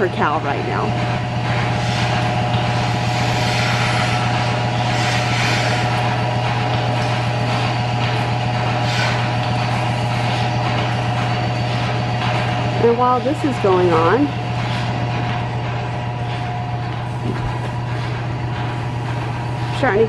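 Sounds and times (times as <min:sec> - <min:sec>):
vacuum pump humming: 0:00.0 - 0:20.0.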